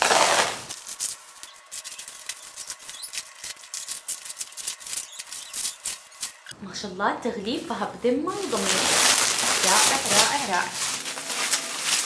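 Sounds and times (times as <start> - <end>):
bubble wrap crinkling: 0.0 - 6.6, 7.5 - 12.0.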